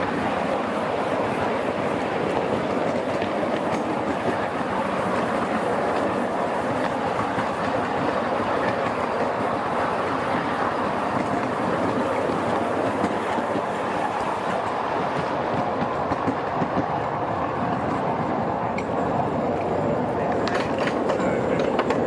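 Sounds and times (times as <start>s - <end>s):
train wheels running on track: 0.0s - 22.0s.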